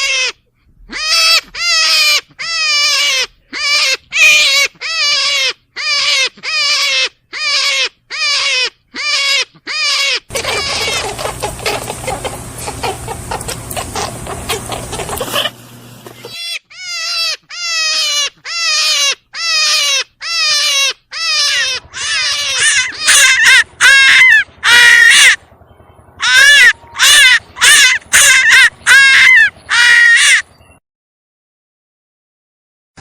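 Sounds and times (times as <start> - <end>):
animal falling cries: 0.0 - 25.4, 26.2 - 30.5.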